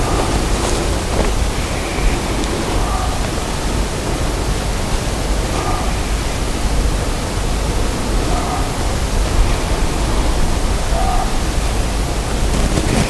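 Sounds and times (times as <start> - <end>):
static-like hiss: 0.0 - 13.0.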